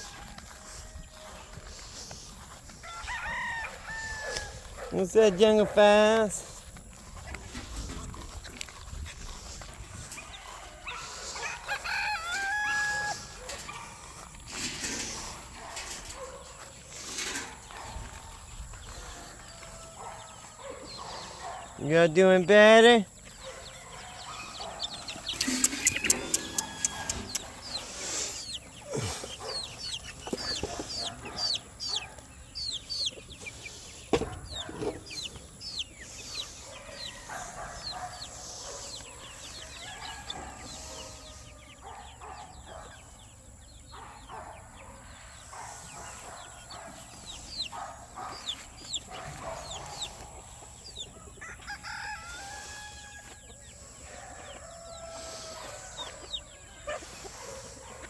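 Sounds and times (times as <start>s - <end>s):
chickens clucking: 0.0s - 58.0s
roosters crowing: 0.0s - 58.0s.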